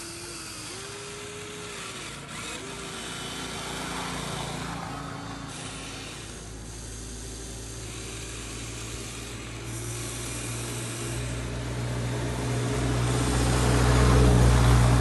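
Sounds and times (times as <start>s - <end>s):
toy excavator motors whirring: 0.0s - 15.0s.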